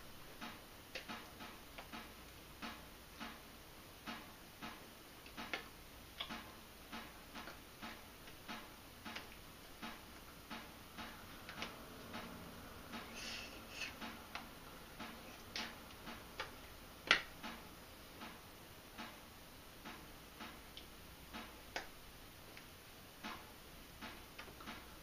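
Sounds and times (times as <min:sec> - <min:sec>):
clock ticking: 0:04.0 - 0:25.0.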